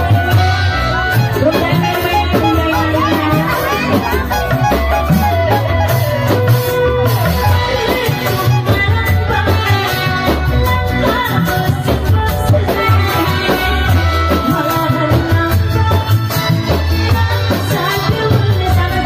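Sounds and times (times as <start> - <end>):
driving drum beat: 0.0 - 19.0
woman singing through microphone: 0.0 - 19.0.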